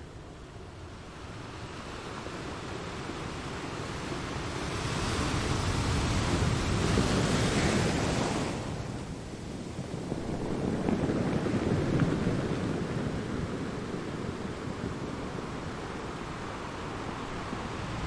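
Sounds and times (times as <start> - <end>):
sea surf: 1.0 - 18.0
wind buffeting microphone: 2.4 - 18.0.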